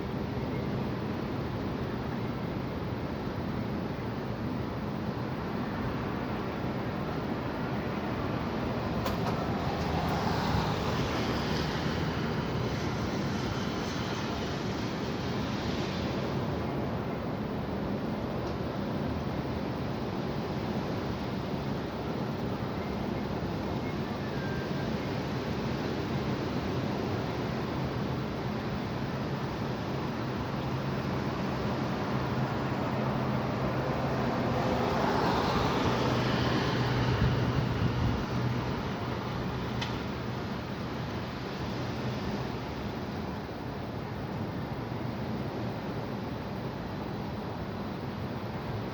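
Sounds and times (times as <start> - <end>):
high wind blowing: 0.0 - 24.2, 24.8 - 48.9.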